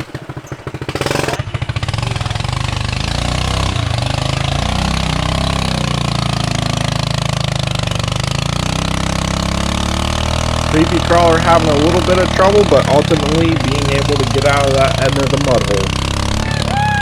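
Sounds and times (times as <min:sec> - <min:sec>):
lawn tractor engine running hard: 0:00.0 - 0:17.0.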